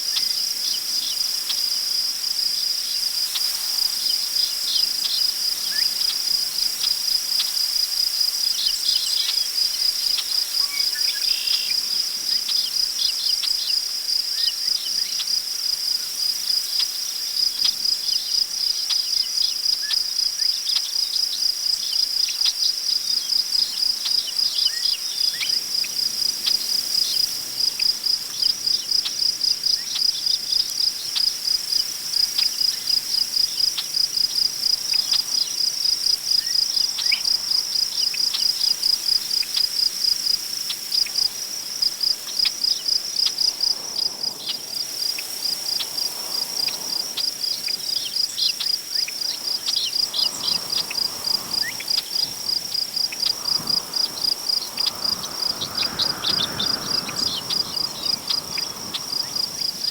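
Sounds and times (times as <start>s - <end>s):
wind rustling through grass: 0.0s - 20.6s, 21.3s - 59.9s
crickets chirping: 0.0s - 59.9s.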